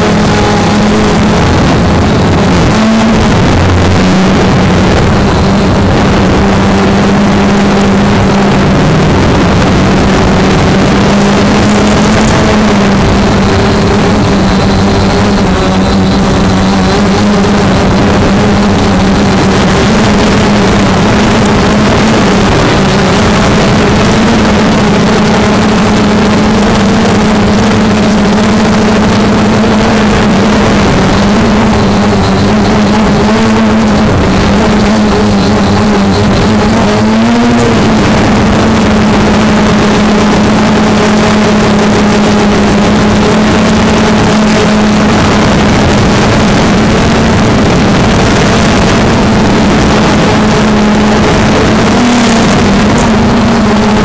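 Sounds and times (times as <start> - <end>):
drone motors buzzing: 0.0 - 54.0
rush of air: 0.0 - 54.0.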